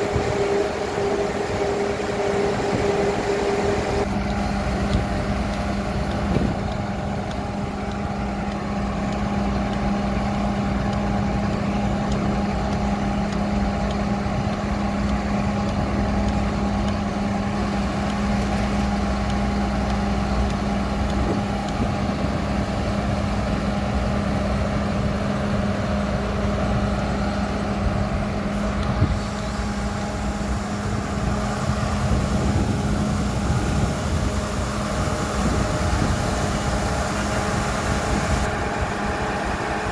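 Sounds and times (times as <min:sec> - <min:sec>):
drilling rig engine humming: 0:00.0 - 0:39.9.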